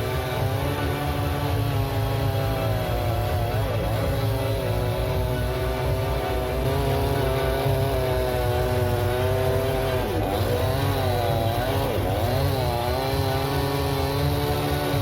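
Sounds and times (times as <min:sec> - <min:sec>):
two-stroke power tool engine: 0:00.0 - 0:15.0.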